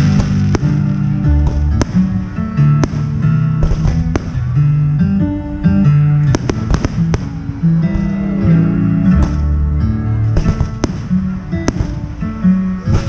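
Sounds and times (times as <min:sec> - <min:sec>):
fireworks bangs: 0:00.0 - 0:05.4, 0:06.2 - 0:08.4, 0:09.1 - 0:09.6, 0:10.2 - 0:13.0
guitar-led music: 0:00.0 - 0:13.0.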